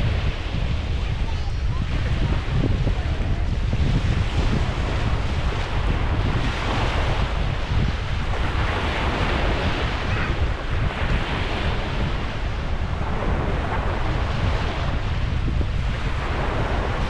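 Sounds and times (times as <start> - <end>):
surf washing in: 0.0 - 17.0
wind buffeting microphone: 0.0 - 17.0.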